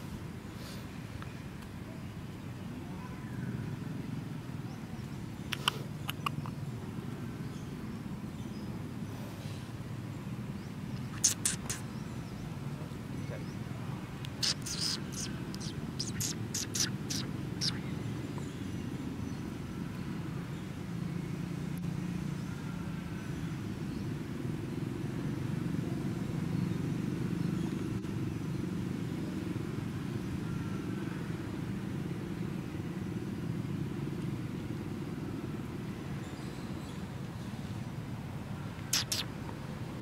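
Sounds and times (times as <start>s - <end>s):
distant traffic rumble: 0.0s - 40.0s.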